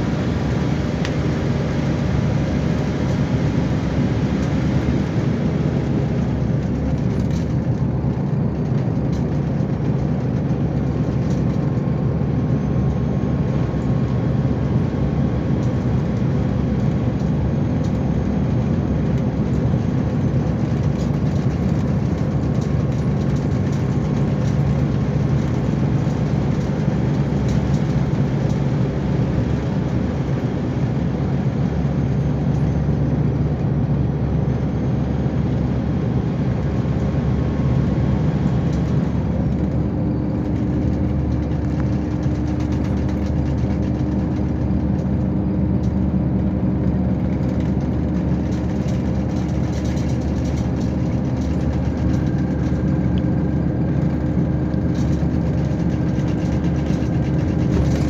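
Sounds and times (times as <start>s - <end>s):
diesel bus engine running: 0.0s - 58.0s
road noise: 0.0s - 58.0s.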